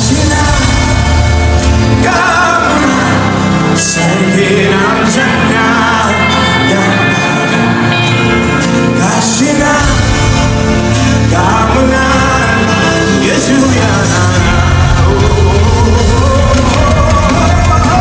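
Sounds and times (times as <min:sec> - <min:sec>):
gospel band with heavy bass: 0:00.0 - 0:18.0
person singing: 0:00.0 - 0:18.0.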